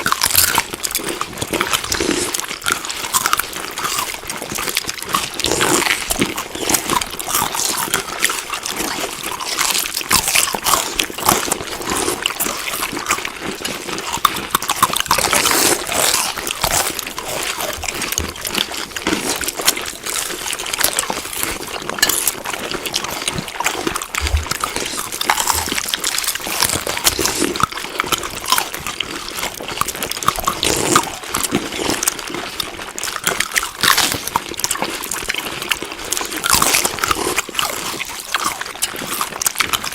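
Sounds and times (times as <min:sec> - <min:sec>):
chewing food: 0:00.0 - 0:39.9.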